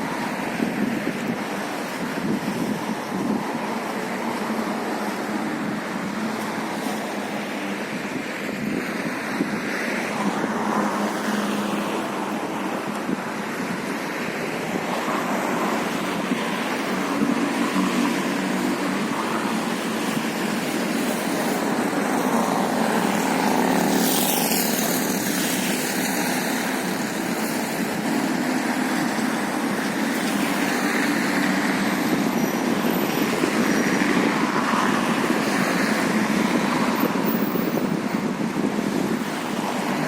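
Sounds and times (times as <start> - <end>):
sea waves rushing: 0.0 - 40.0
wind: 0.0 - 40.0.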